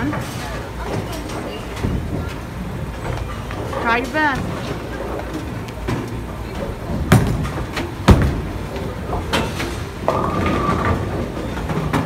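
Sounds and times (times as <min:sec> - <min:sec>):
knocks and clatter from lanes: 0:00.0 - 0:12.0
bowling ball thudding and rolling: 0:00.9 - 0:12.0.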